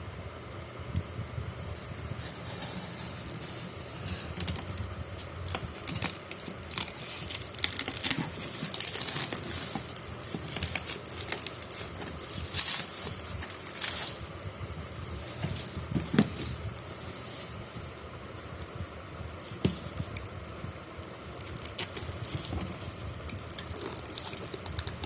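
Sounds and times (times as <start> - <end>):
packaging rustling and tearing: 1.9 - 25.0.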